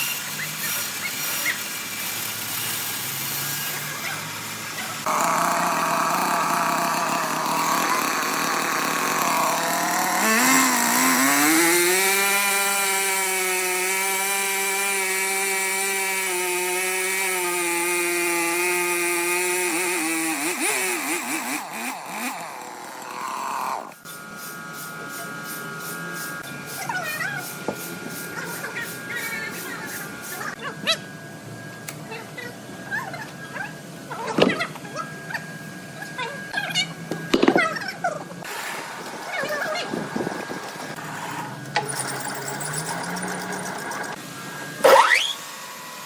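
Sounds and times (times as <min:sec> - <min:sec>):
sawmill saw whining: 0:00.0 - 0:46.0.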